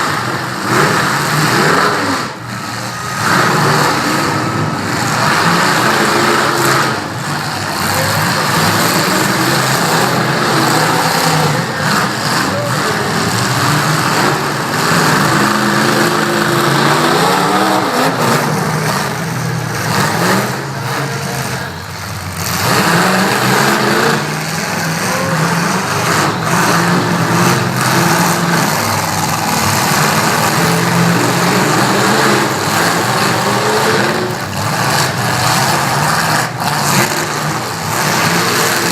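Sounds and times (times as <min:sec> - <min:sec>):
truck engines revving: 0:00.0 - 0:38.9.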